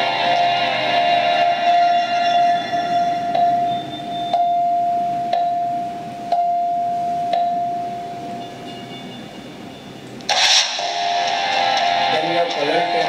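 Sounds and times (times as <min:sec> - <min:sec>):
high note re-struck: 0:00.0 - 0:13.0.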